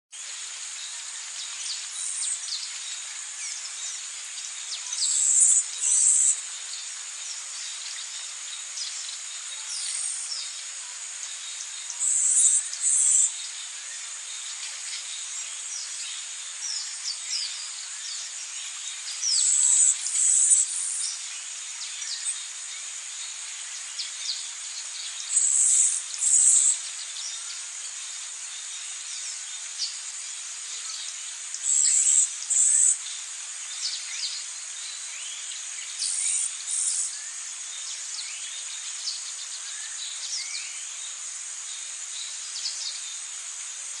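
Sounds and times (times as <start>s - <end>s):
insects trilling: 0.2s - 44.0s
small birds chirping: 0.2s - 44.0s.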